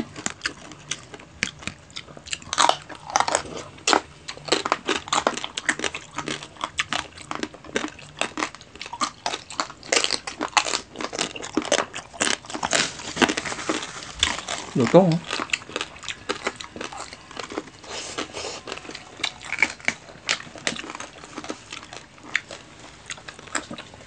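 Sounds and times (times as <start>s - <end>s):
crispy skin crunching: 0.0s - 24.0s.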